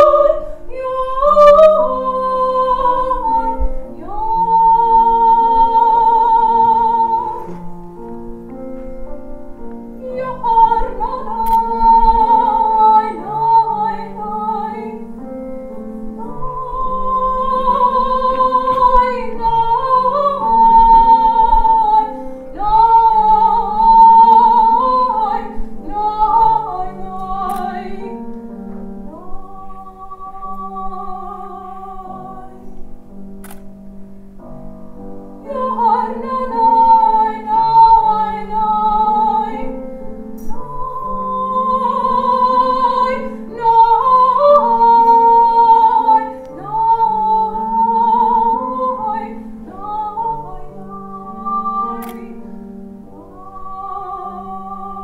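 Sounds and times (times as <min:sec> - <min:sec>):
woman singing with vibrato: 0:00.0 - 0:07.8, 0:09.9 - 0:15.2, 0:16.1 - 0:28.3, 0:29.1 - 0:32.8, 0:35.4 - 0:39.8, 0:40.4 - 0:52.5, 0:53.1 - 0:55.0
piano accompaniment: 0:00.0 - 0:55.0.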